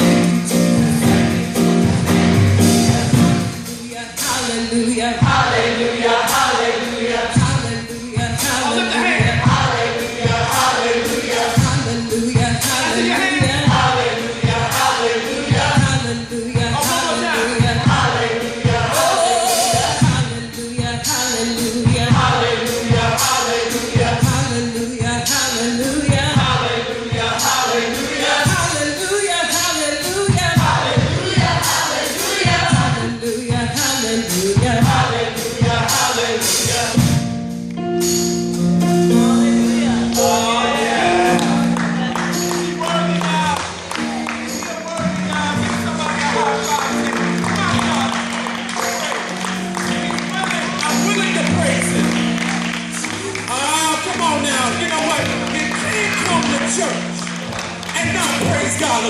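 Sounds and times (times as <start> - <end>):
band playing: 0.0 - 59.0
choir singing: 2.6 - 37.0, 39.8 - 43.2, 46.6 - 59.0.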